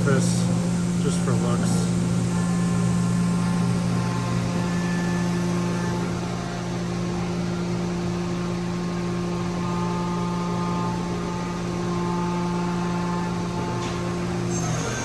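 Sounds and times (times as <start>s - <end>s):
higher whining tones: 0.0s - 15.0s
machine whining tones: 0.0s - 15.0s
milling machine hum: 0.0s - 15.0s.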